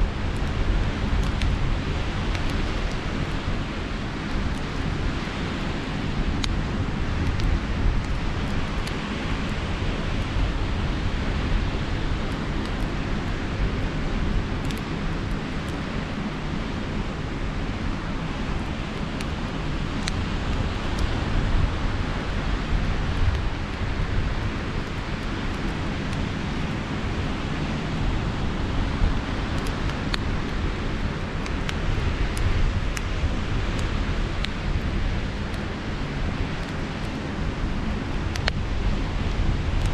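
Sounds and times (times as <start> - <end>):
campfire crackling: 0.0 - 39.9
sea surf washing: 0.0 - 39.9
wind buffeting microphone: 0.0 - 39.9.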